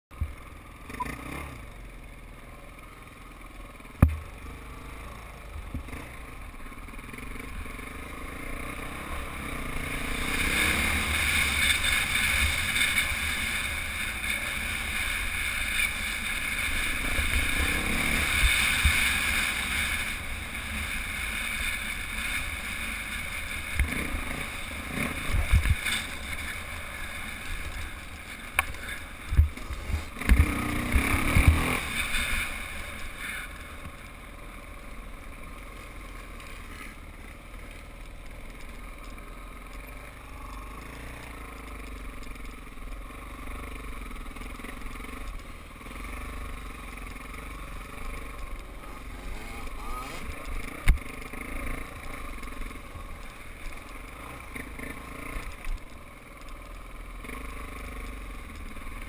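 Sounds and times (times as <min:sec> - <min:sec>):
dirt bike engine revving: 0:00.3 - 0:02.0, 0:03.2 - 0:59.0.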